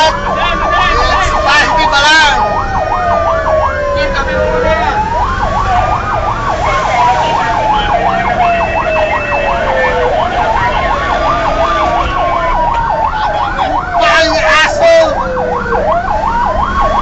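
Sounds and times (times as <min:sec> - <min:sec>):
fast siren yelp: 0:00.0 - 0:17.0
fire engine siren wail: 0:00.0 - 0:17.0.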